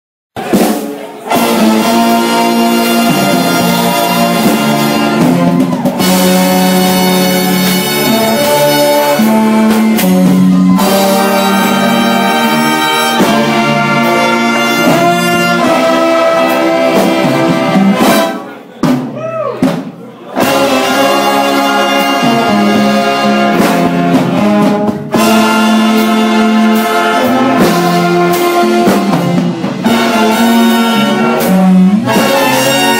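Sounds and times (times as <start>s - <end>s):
sliding brass notes: 0.4s - 18.8s, 20.3s - 32.9s
jazz big band playing: 0.4s - 32.9s.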